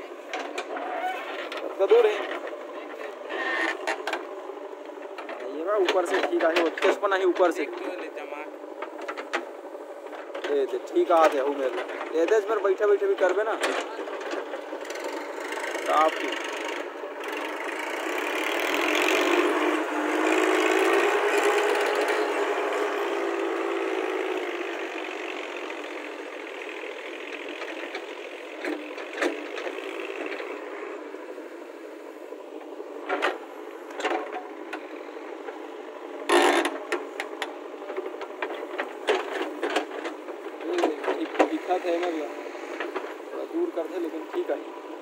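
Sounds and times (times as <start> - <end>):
tractor diesel engine laboring: 0.0 - 45.0
backhoe knocks and clanks: 0.2 - 31.4, 32.5 - 43.3.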